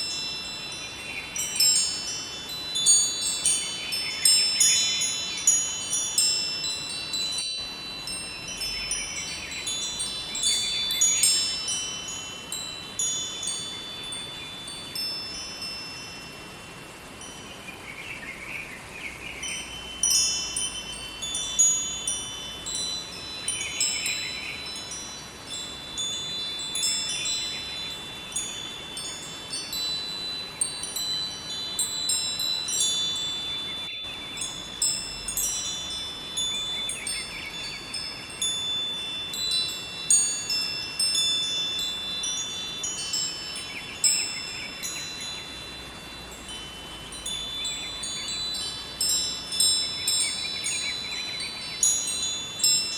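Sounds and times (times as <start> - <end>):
wind chimes ringing: 0.0 - 18.2, 18.8 - 52.9.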